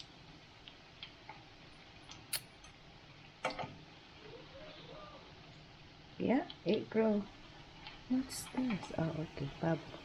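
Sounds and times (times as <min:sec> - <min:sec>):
dough sizzling in hot oil: 0:00.0 - 0:10.0.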